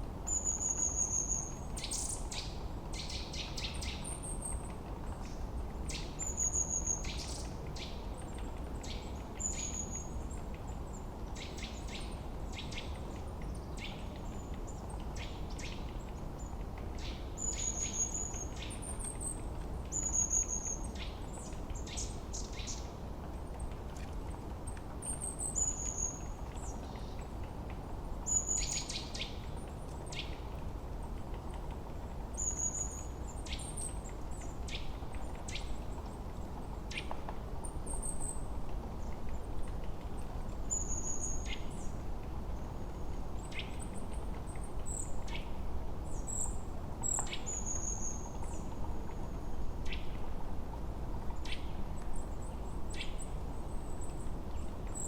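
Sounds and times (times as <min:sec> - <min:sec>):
songbirds chirping: 0:00.1 - 0:55.0.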